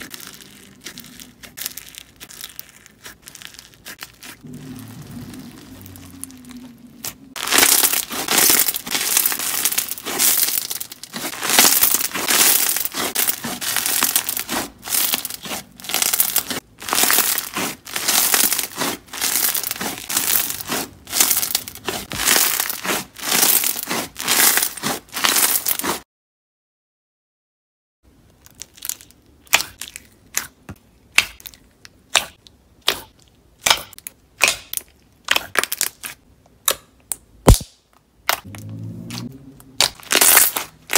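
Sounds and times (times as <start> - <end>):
crackling slime squishes: 0.0 - 26.0, 28.3 - 39.2, 39.8 - 40.9.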